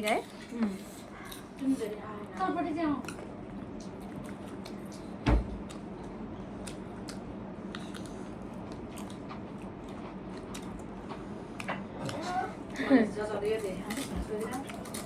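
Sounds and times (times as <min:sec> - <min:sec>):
people chewing noodles: 0:00.0 - 0:15.0.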